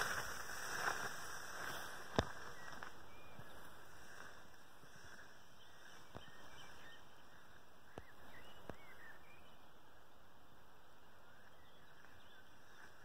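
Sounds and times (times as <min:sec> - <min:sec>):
distant bird chirps: 0:00.0 - 0:13.0
steady soft hiss: 0:00.0 - 0:13.0.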